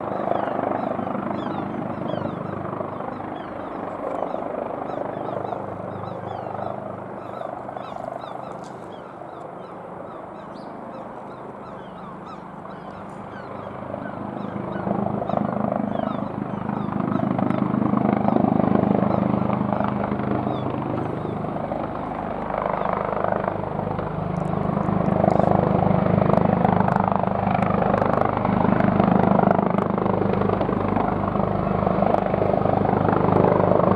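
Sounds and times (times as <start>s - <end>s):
helicopter hovering: 0.0s - 33.9s.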